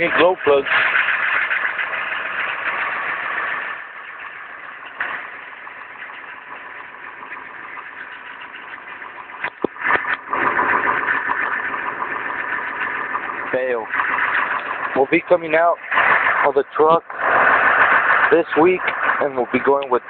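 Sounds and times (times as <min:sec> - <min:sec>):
diesel engine running rough: 0:00.0 - 0:20.0
engine knock: 0:00.0 - 0:20.0.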